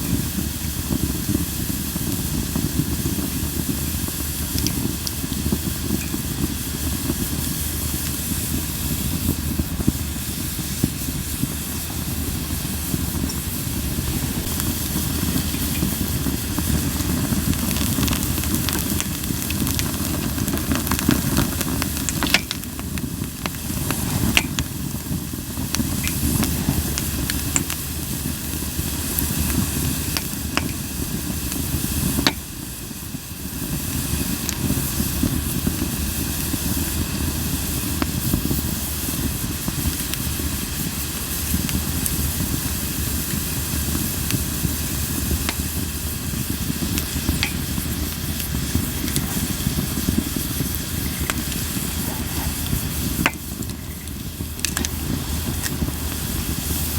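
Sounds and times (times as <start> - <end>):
campfire flames hissing: 0.0 - 56.9
firewood crackling: 0.0 - 56.9.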